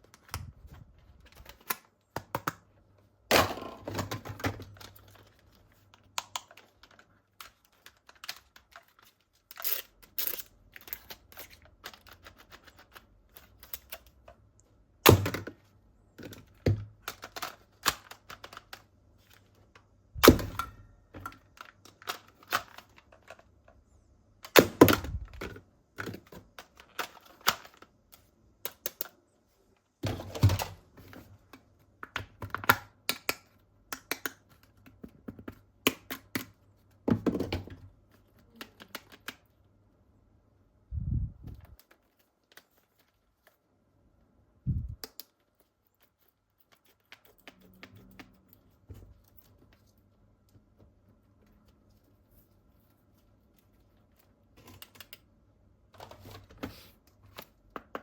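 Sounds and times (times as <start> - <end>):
plastic toy parts being handled: 0.0 - 39.8, 41.4 - 43.8, 44.7 - 58.0.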